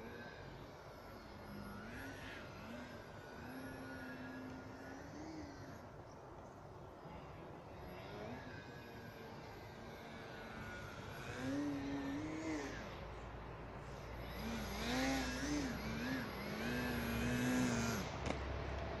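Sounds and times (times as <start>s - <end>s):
model aircraft motor humming: 0.0s - 6.0s, 7.7s - 19.0s.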